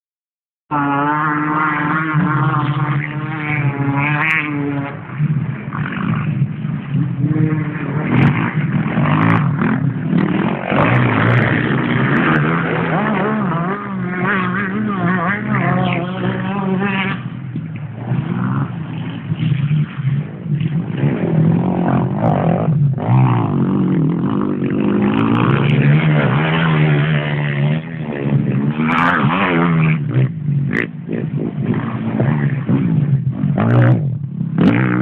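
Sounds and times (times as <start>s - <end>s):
dirt bike engines revving: 0.7s - 35.0s.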